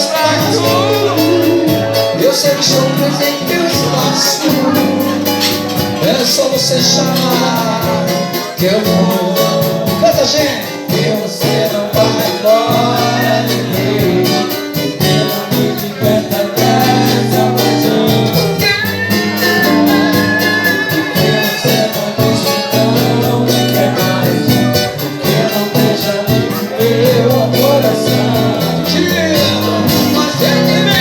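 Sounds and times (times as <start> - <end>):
guitar: 0.0 - 31.0
live band music: 0.0 - 31.0
percussion beat: 0.0 - 31.0
person singing: 0.0 - 31.0.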